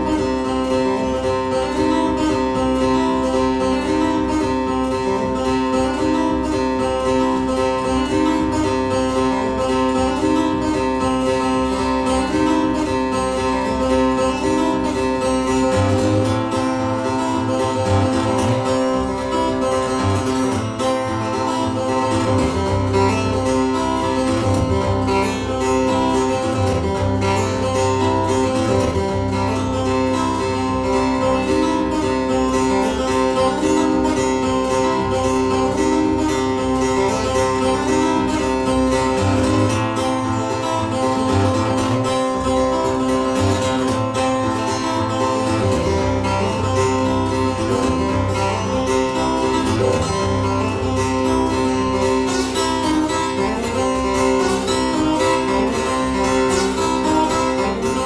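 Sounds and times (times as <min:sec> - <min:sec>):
acoustic guitar playing: 0:00.0 - 0:58.0.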